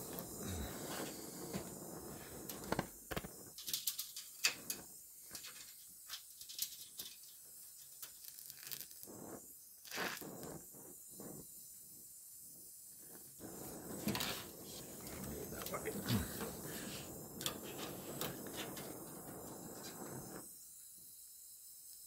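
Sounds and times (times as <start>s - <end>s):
weld crackles and pops: 0.0s - 11.5s, 12.9s - 20.5s
welding torch hissing: 0.0s - 22.0s.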